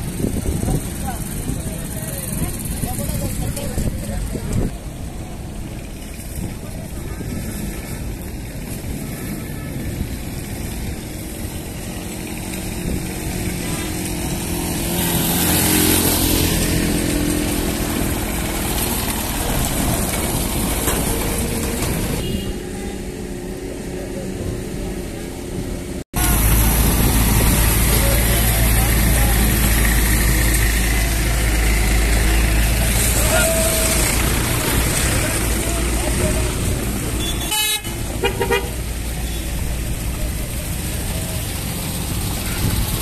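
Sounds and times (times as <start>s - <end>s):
small engine cart passing: 0.0s - 24.8s, 26.2s - 37.3s
road noise: 0.0s - 43.0s
vehicle engines running: 0.0s - 43.0s.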